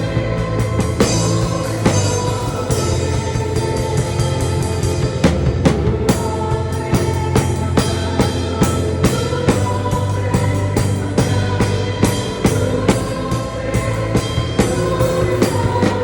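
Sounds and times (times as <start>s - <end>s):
acoustic drum kit groove: 0.0s - 16.0s
background song music: 0.0s - 16.0s.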